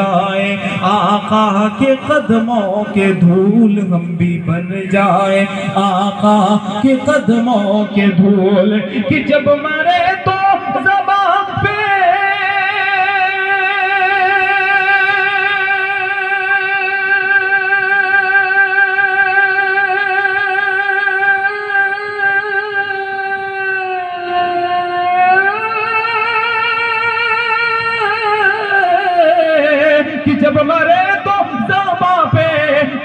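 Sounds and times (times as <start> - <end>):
man singing with vibrato: 0.0 - 33.0.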